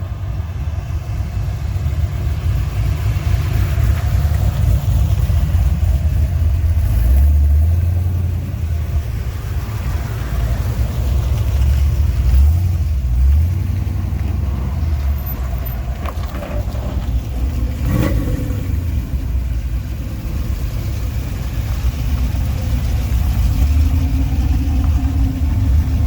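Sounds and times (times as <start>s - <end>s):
car engines rumbling low: 0.0s - 26.0s.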